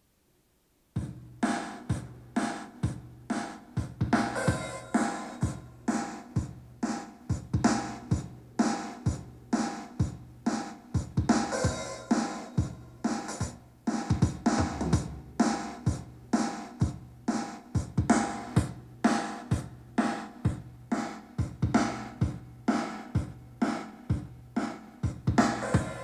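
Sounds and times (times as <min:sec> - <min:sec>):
electronic drum track from speaker: 0:00.9 - 0:26.0.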